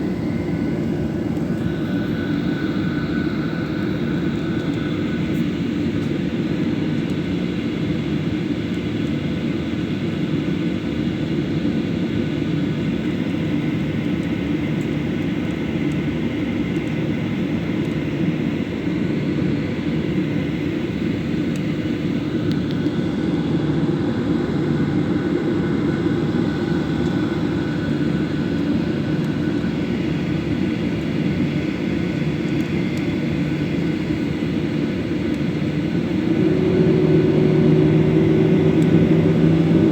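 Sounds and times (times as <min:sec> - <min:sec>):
jet engines heard from cabin: 0:00.0 - 0:39.9.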